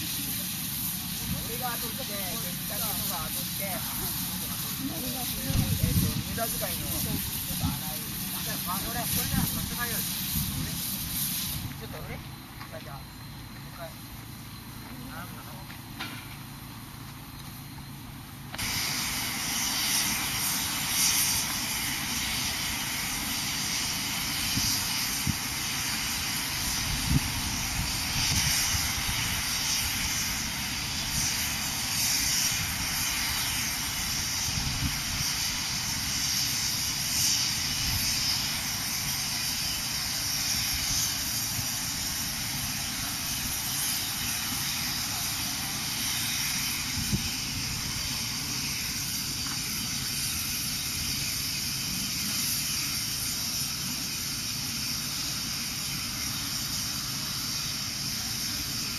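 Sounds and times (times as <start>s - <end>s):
steam hissing: 0.0s - 58.9s
steam locomotive exhaust chuffs: 0.0s - 58.9s.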